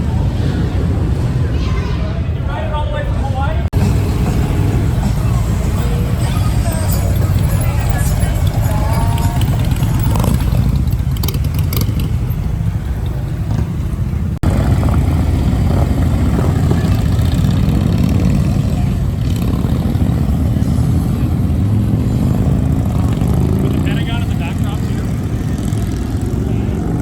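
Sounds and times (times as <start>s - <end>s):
motorcycle engines rumbling: 0.0s - 27.0s.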